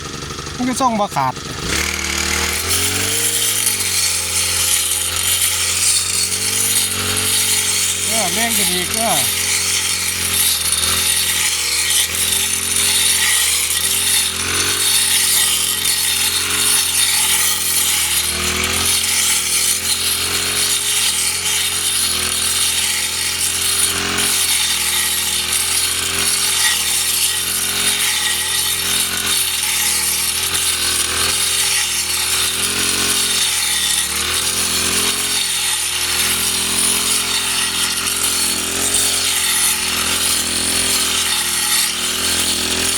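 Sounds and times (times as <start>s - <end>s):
brush cutter cutting grass: 0.0s - 42.9s.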